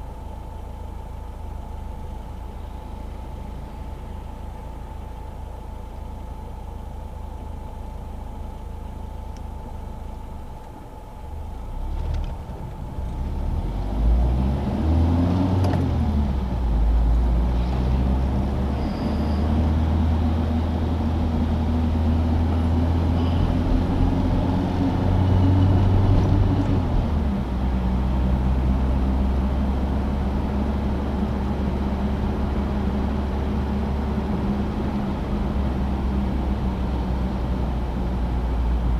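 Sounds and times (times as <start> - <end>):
car engine driving: 0.0 - 38.9.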